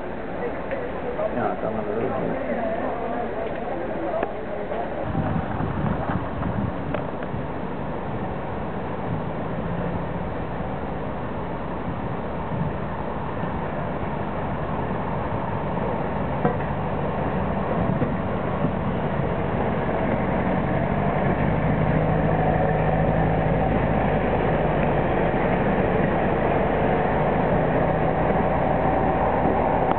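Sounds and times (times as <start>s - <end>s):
jeep engine running: 0.0s - 29.9s
wheels rolling along rail track: 0.0s - 29.9s.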